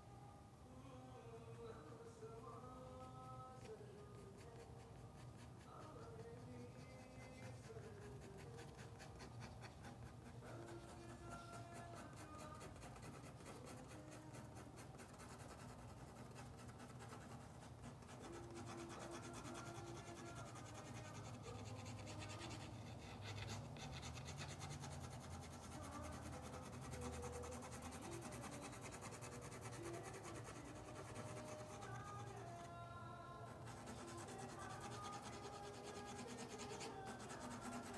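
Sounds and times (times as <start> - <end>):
brush scratching on paper: 3.0 - 32.8, 33.5 - 37.9.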